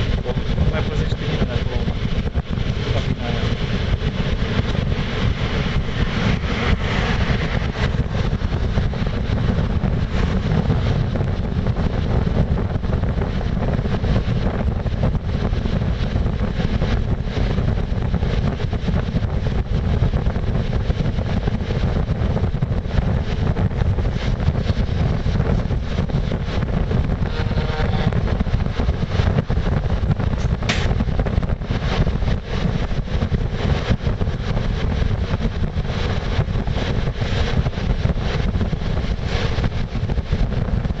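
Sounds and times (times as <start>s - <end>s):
train wheels rumbling on track: 0.0s - 41.0s
wind rushing past microphone: 0.0s - 41.0s.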